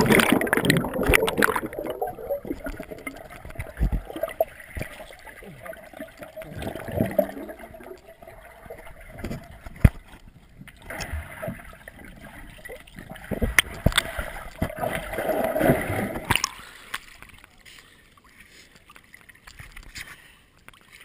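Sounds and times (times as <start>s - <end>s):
underwater churning and bubbles: 0.0s - 21.0s.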